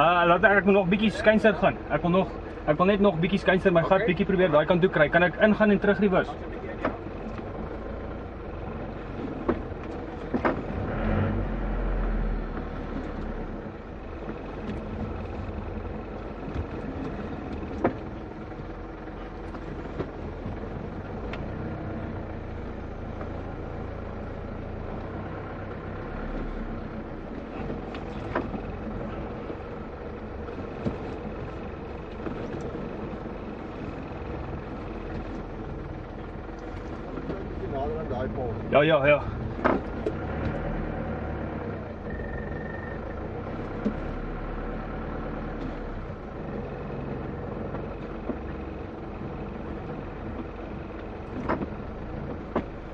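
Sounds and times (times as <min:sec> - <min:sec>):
diesel engine running at low revs: 0:00.0 - 0:52.9.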